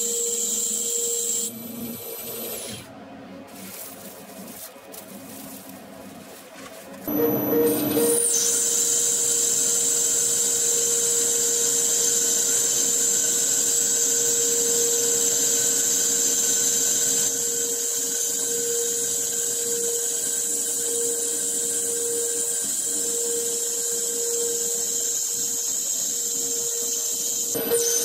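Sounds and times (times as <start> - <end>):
lathe motor whine: 0.0 - 3.0, 7.0 - 28.0.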